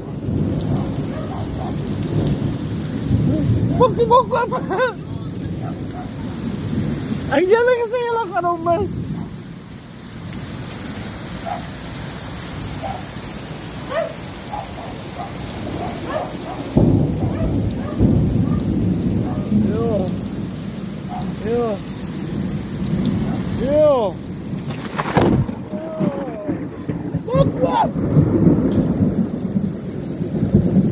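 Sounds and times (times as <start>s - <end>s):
heavy rain on pavement: 0.0s - 30.9s
thunder rumbling: 0.0s - 30.9s.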